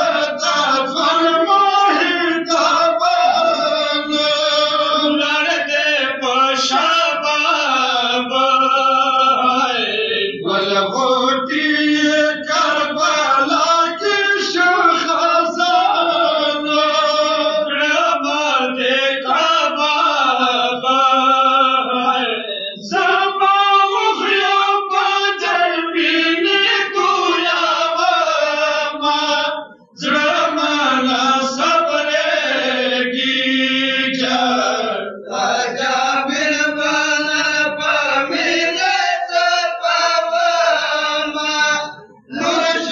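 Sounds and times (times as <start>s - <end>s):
men chanting: 0.0s - 42.9s.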